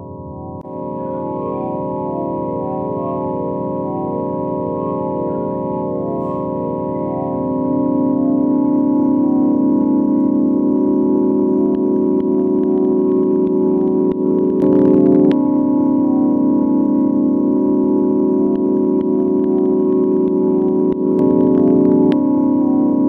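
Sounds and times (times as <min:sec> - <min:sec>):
synthesized drone chord: 0:00.0 - 0:23.0.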